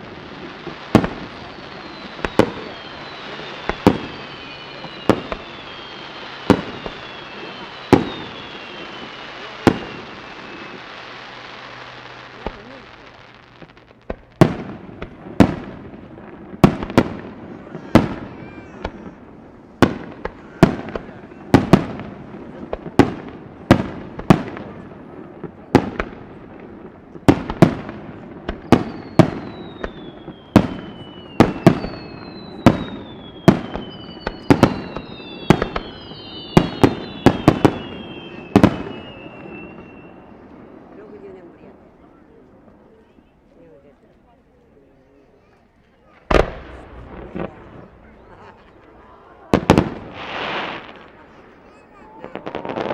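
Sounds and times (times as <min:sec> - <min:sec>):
whistling fireworks: 0:00.0 - 0:43.7, 0:45.0 - 0:52.9.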